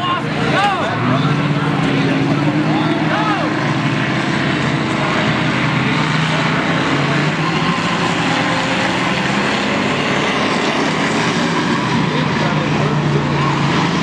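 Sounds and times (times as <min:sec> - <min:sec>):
race car engines roaring: 0:00.0 - 0:14.0.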